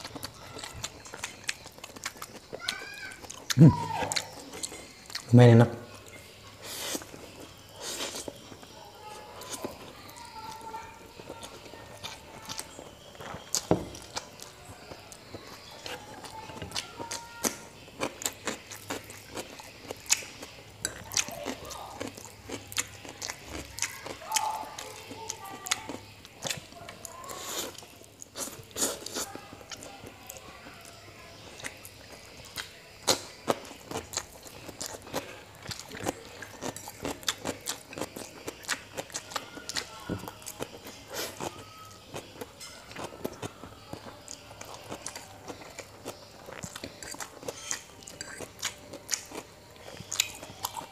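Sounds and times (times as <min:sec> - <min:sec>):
chewing and slurping noodles: 0:00.0 - 0:05.3, 0:06.0 - 0:50.9.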